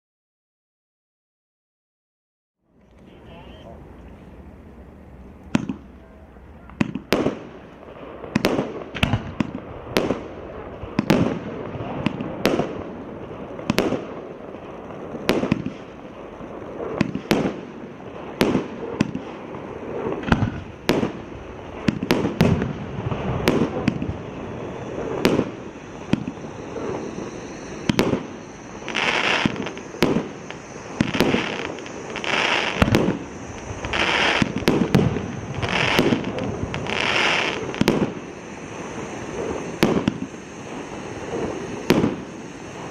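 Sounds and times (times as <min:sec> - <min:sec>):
bright firework bursts: 0:02.8 - 0:42.9
fireworks firing: 0:02.8 - 0:42.9.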